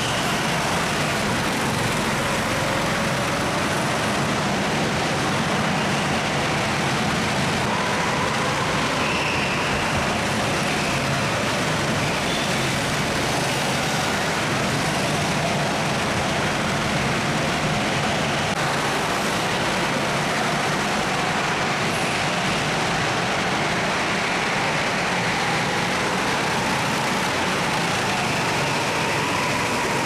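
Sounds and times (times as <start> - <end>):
go-kart engines in a hall: 0.0 - 30.0.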